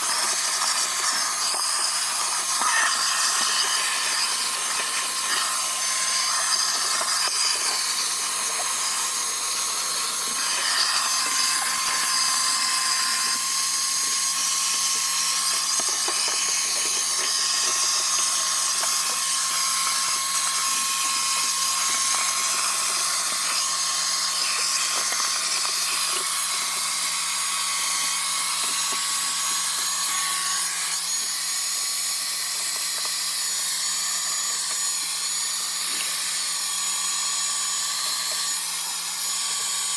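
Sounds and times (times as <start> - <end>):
shop vacuum running: 0.0 - 39.9.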